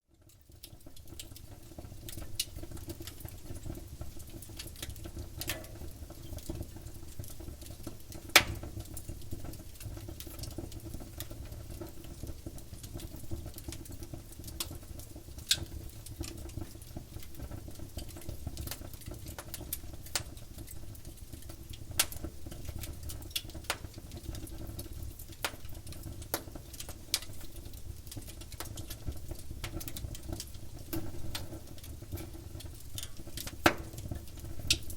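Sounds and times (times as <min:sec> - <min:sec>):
campfire wood crackling and popping: 0:00.1 - 0:34.9
low rumble of flames: 0:00.1 - 0:34.9.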